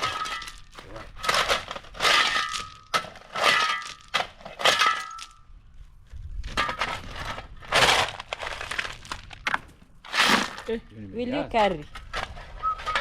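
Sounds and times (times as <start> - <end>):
stones cracking under blows: 0.0 - 13.0.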